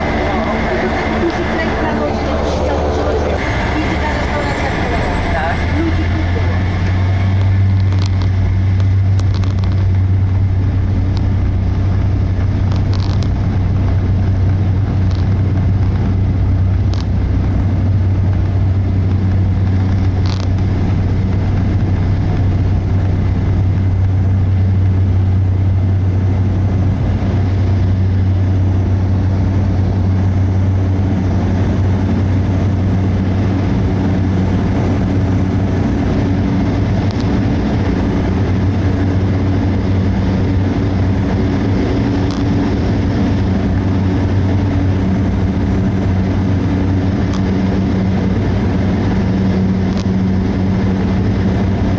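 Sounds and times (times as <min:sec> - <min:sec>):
propeller plane engine droning: 0:00.0 - 0:51.9.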